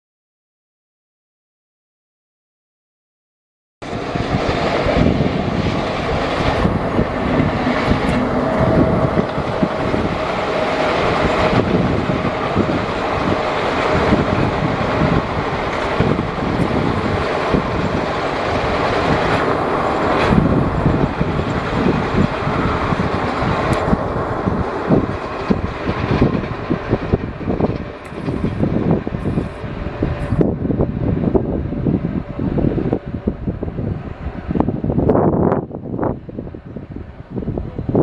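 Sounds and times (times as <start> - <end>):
train rumbling along track: 3.8 - 38.0.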